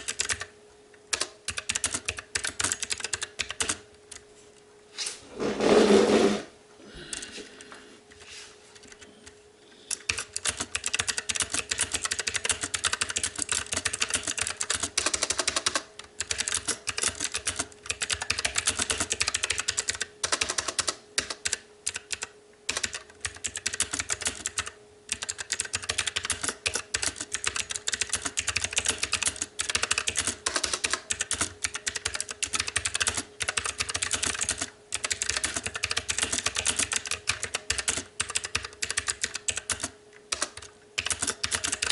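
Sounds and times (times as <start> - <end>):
clicky mechanical keyboard typing: 0.0 - 0.5, 1.1 - 4.2, 8.8 - 41.9.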